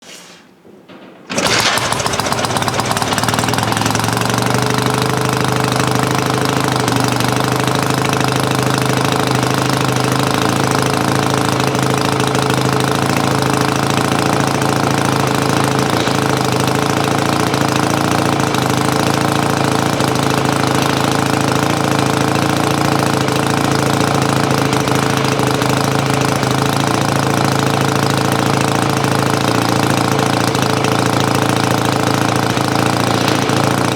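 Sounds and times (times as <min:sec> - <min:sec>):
motorcycle engine starting and idling: 0:00.6 - 0:33.9.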